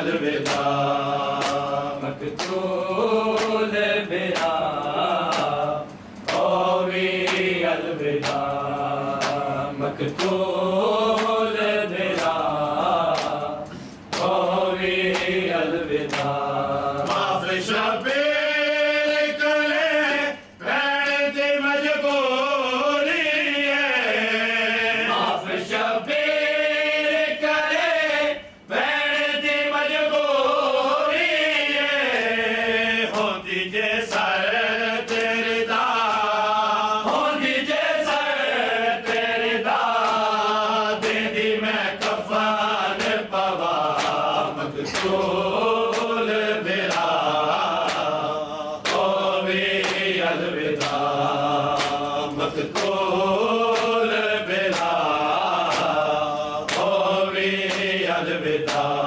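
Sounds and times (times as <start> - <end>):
rhythmic chest-beating strikes: 0.0 - 27.0, 29.5 - 59.0
men chanting in unison: 0.0 - 59.0.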